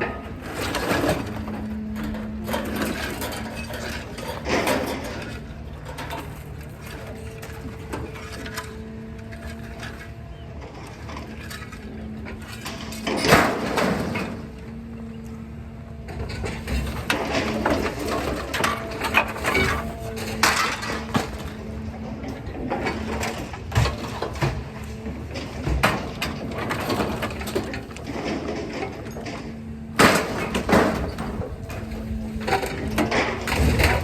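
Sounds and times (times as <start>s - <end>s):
scrap metal clanking and crashing: 0.0s - 34.0s.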